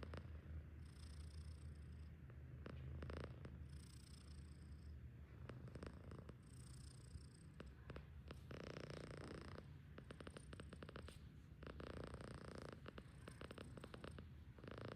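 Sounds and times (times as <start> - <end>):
cat snoring: 0.0 - 14.9.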